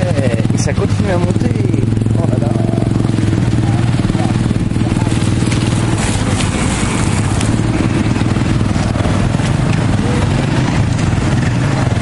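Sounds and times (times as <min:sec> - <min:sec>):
motor scooter engines humming: 0:00.0 - 0:12.0.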